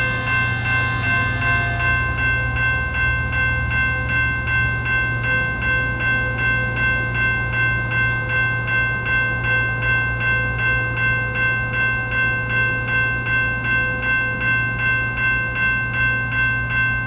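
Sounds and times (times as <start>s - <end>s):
crossing warning bell ringing: 0.0s - 17.0s.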